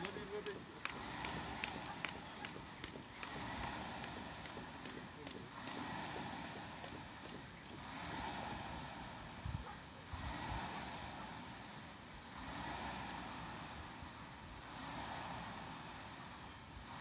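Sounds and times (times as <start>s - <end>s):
rowing machine fan whooshing: 0.0s - 17.0s.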